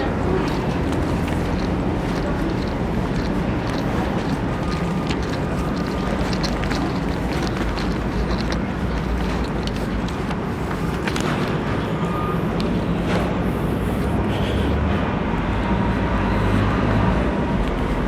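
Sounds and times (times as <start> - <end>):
airport ground noise rumble: 0.0 - 18.0.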